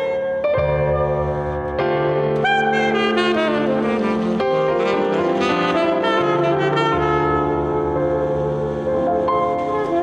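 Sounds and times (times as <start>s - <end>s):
electric piano chords: 0.0s - 10.0s
tenor saxophone playing: 0.0s - 10.0s.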